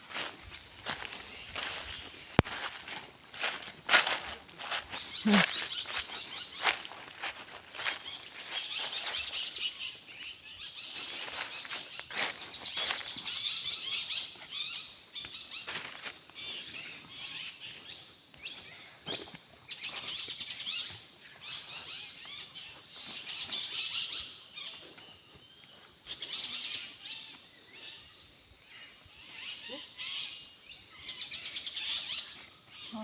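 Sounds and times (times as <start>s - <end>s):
small birds twittering: 0.0s - 33.0s.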